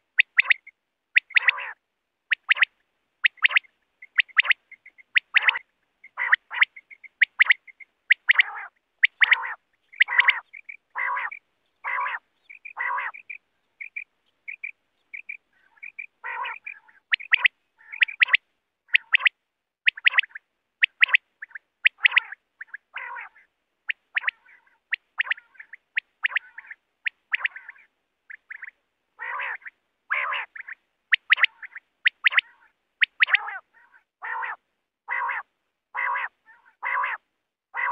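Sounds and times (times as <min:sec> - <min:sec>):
quail calling: 0:00.0 - 0:37.9.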